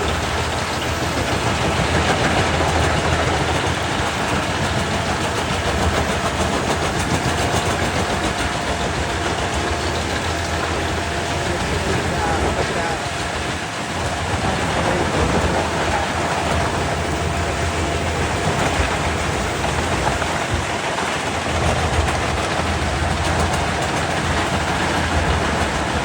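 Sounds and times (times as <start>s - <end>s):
wood chipper chipping wood: 0.0s - 26.0s.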